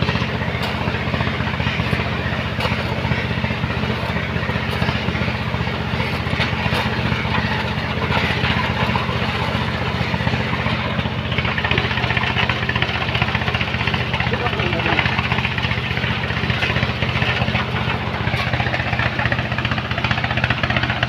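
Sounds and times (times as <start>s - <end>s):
machine engine running steadily: 0.0s - 21.0s.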